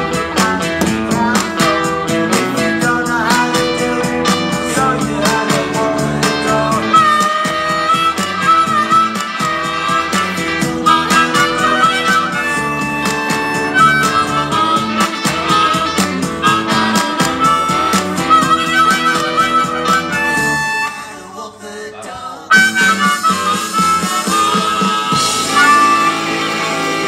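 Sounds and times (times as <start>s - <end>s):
amplified blues harmonica: 0.0s - 21.3s, 22.5s - 27.0s
backing music with guitar and beat: 0.0s - 21.3s, 22.4s - 27.0s.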